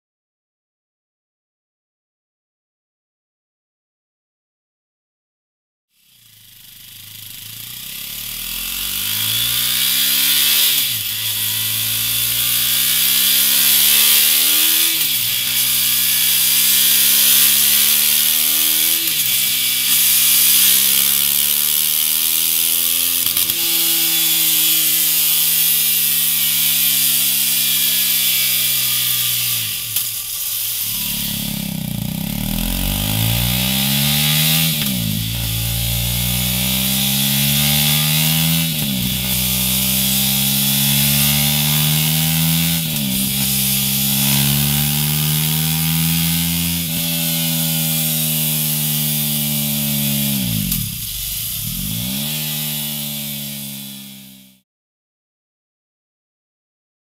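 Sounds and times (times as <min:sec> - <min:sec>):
motorcycle engine revving on dyno: 0:05.9 - 0:54.6.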